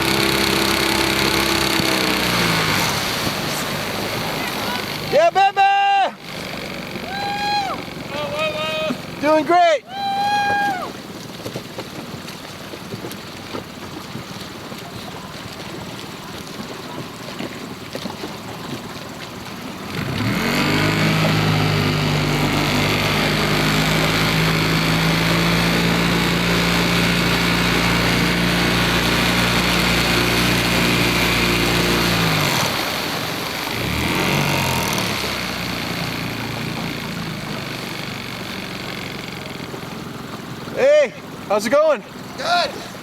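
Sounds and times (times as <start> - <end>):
motorboat engine: 0.0 - 43.0
water noise: 0.0 - 43.0.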